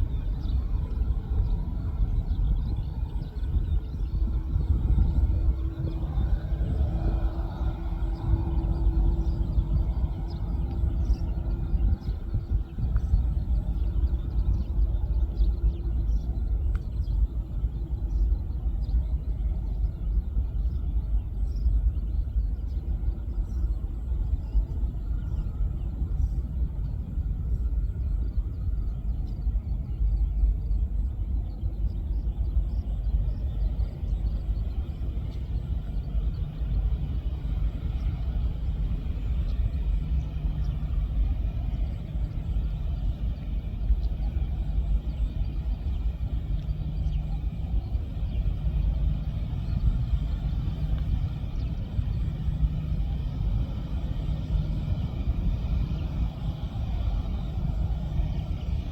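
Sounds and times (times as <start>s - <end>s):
faint humming drone: 0.0s - 58.9s
low airport rumble: 0.0s - 58.9s.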